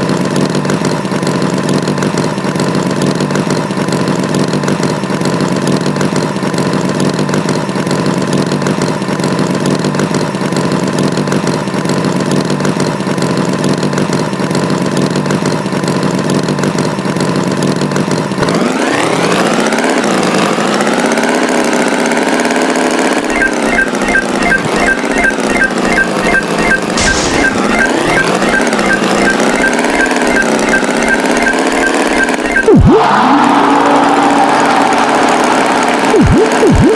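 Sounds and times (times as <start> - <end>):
tractor engine idling and revving: 0.0 - 36.9.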